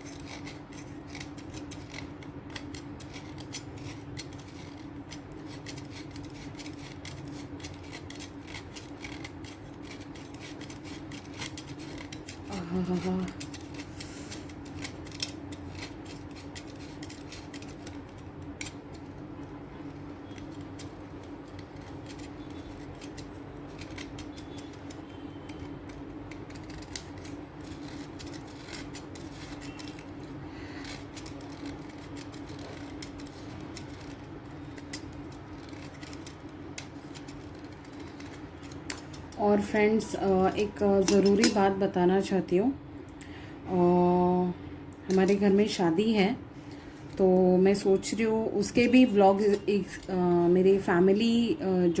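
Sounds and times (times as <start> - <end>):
blade scraping through chalk: 0.0 - 42.4, 46.9 - 50.9
steady low hum: 0.0 - 52.0.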